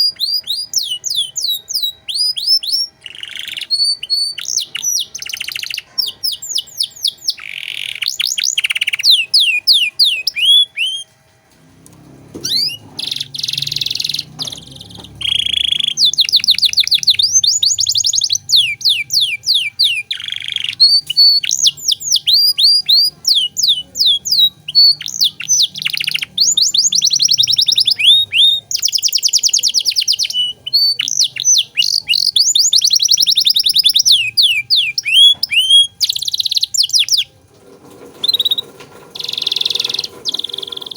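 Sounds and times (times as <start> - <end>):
canary singing trills: 0.0 - 11.1, 12.4 - 37.4, 38.1 - 40.9.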